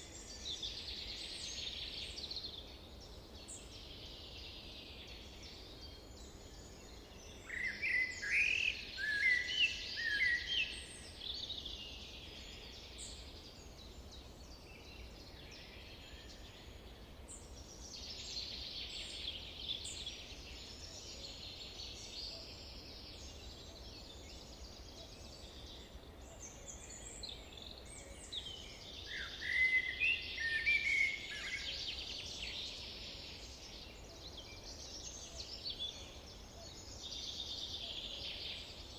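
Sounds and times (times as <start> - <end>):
distant bird chorus: 0.0 - 38.9
nearby bird singing: 0.0 - 38.9.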